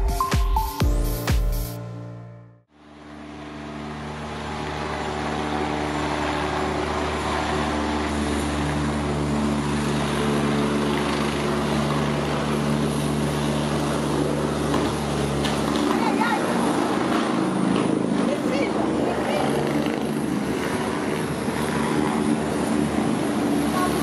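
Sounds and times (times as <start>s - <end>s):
helicopter hovering: 2.8s - 24.0s.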